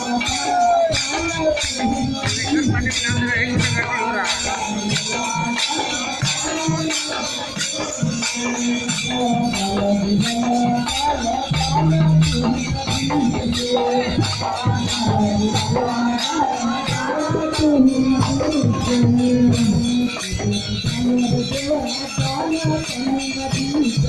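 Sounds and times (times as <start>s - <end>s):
jingling hand percussion: 0.0s - 24.0s.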